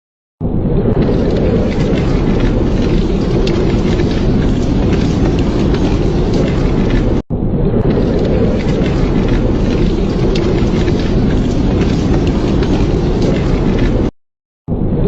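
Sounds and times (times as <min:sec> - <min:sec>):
loud rain: 0:01.0 - 0:07.2, 0:07.9 - 0:14.1.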